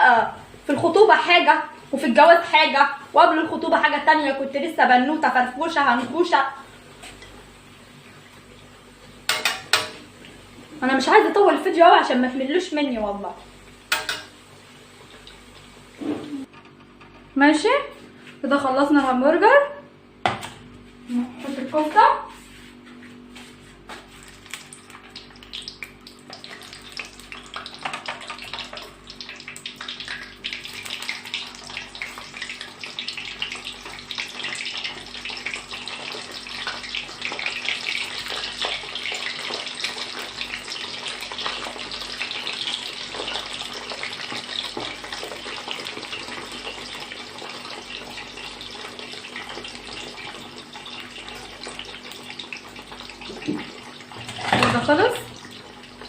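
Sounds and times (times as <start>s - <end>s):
meatballs sizzling in hot oil: 0.0s - 16.5s, 23.9s - 56.0s.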